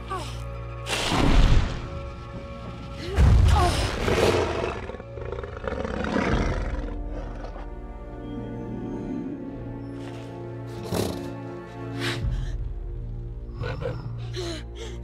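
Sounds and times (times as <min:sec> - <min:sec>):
dramatic orchestral music: 0:00.0 - 0:15.0.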